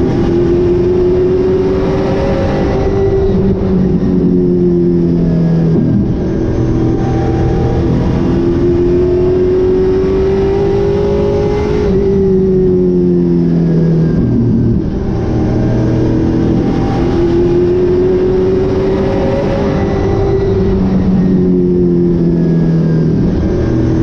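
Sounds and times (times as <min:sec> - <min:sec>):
race car engine at speed: 0:00.0 - 0:24.0.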